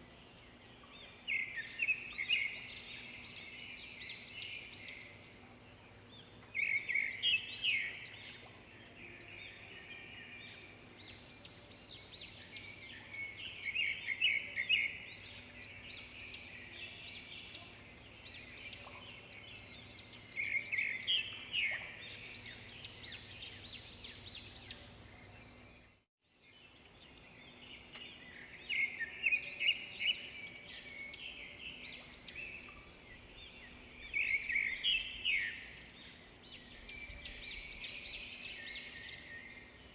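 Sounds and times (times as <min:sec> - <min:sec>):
birds chirping and singing: 0:00.1 - 0:39.9.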